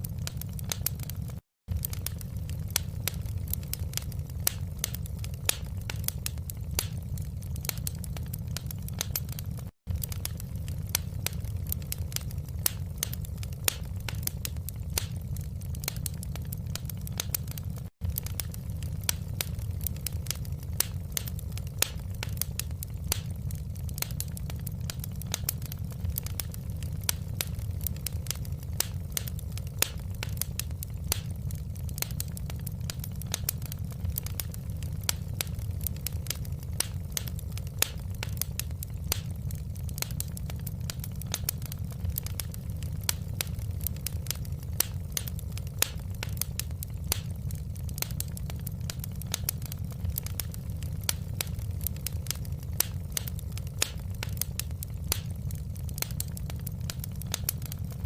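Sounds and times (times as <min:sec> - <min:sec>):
wood fire crackling in fireplace: 0:00.0 - 0:58.0.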